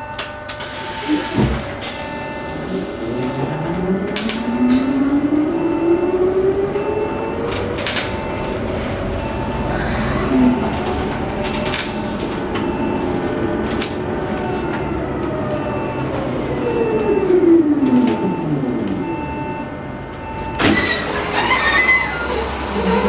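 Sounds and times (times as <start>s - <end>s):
road rumble: 1.6s - 23.0s.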